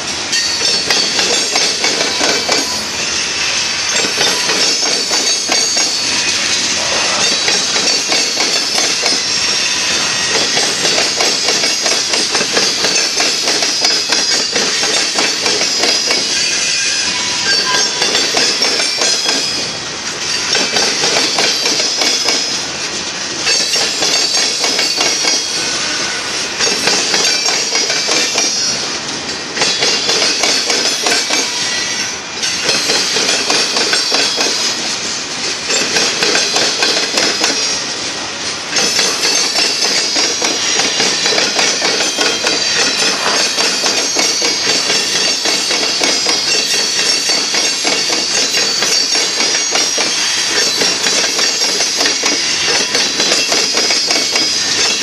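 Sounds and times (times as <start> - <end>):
train wheels clacking over rail joints: 0.0 - 55.0
wheel squeal on rail: 0.0 - 55.0.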